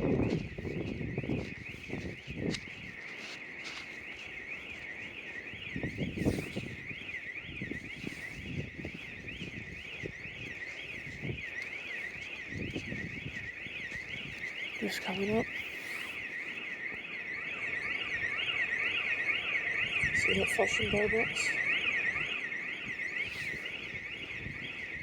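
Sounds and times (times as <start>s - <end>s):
burglar alarm siren warbling: 0.0s - 25.0s.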